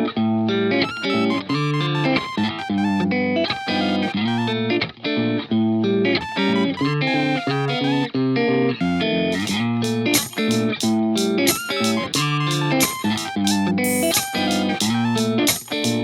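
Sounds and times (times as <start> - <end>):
electric guitar music: 0.0 - 16.0.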